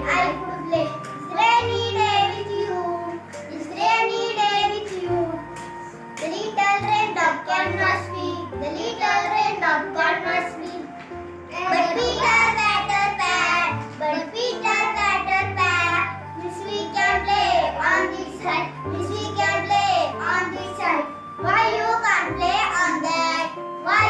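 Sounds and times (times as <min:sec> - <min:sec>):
child singing: 0:00.0 - 0:05.6, 0:06.2 - 0:10.9, 0:11.5 - 0:24.0
backing music track: 0:00.0 - 0:24.0.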